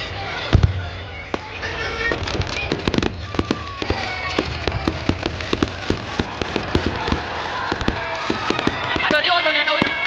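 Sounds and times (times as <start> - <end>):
firecrackers banging and popping: 0.5 - 10.0
steady crackling: 1.3 - 10.0.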